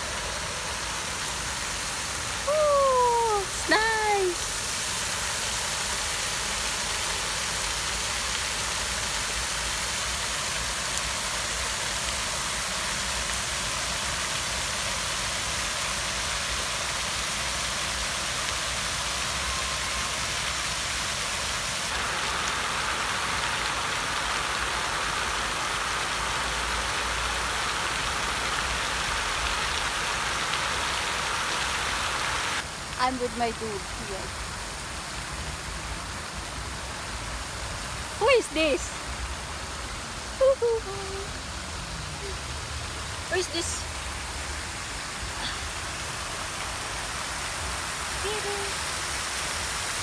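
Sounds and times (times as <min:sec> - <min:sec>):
fountain water splashing into pool: 0:00.0 - 0:50.0.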